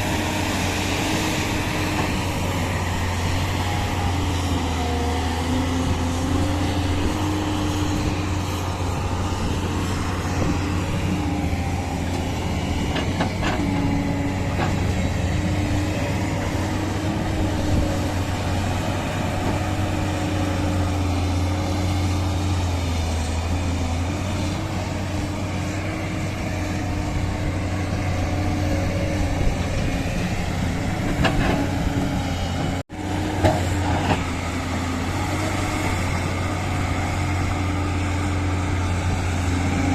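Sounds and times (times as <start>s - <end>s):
heavy machinery diesel engines: 0.0s - 39.9s.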